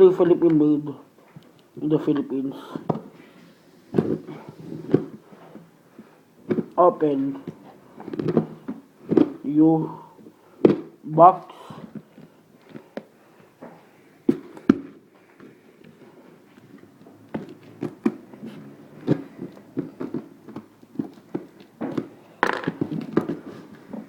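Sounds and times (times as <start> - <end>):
handling noise: 1.2 - 9.6, 11.8 - 24.0.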